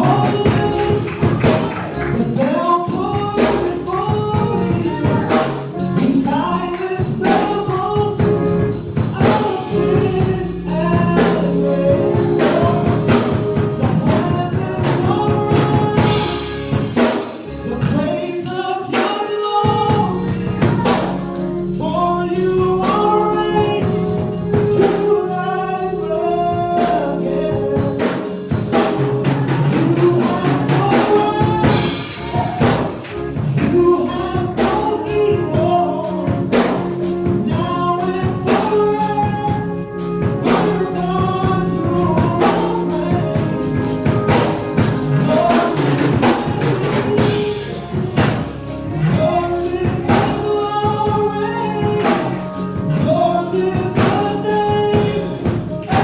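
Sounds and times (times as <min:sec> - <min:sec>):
gospel singing with instruments: 0:00.0 - 0:56.0.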